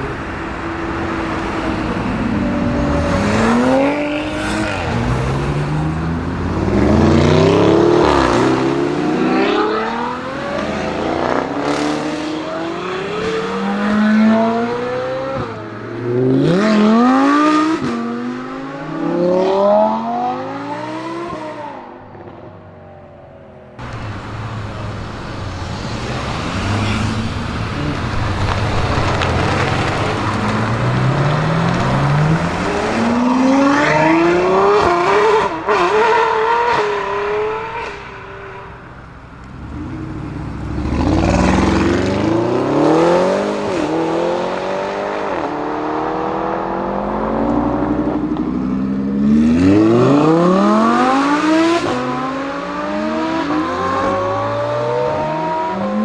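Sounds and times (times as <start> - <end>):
car engine accelerating: 0.0 - 22.2, 23.8 - 56.0.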